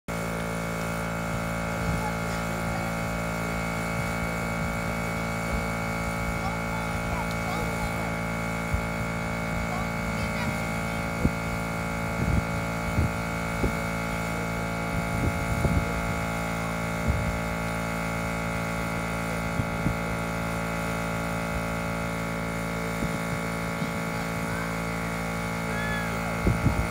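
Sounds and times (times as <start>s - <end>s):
air compressor running: 0.1s - 26.9s.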